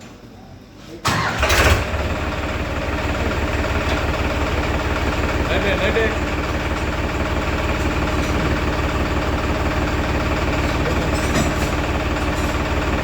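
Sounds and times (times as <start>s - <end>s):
tractor diesel engine idling: 1.1s - 13.0s.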